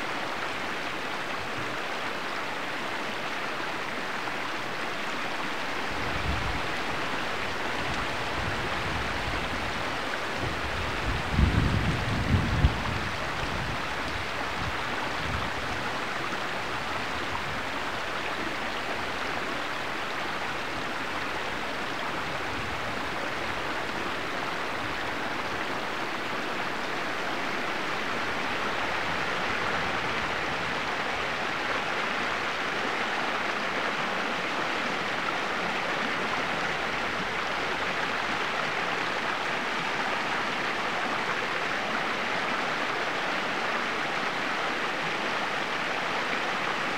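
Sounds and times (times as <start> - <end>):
small stream flowing: 0.0 - 46.9.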